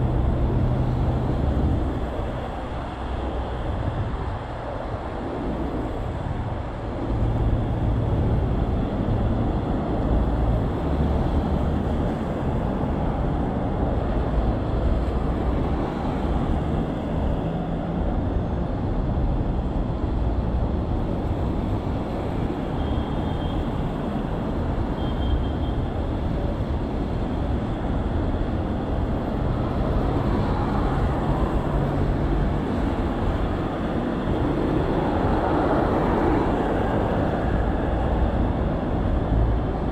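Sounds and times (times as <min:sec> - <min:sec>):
wind rush: 0:00.0 - 0:25.0, 0:25.6 - 0:39.9
bicycle road noise on wet roads: 0:00.0 - 0:39.9.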